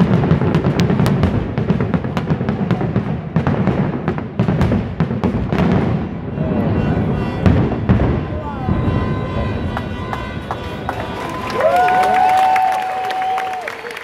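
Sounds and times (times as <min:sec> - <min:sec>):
fireworks bangs: 0:00.0 - 0:13.7.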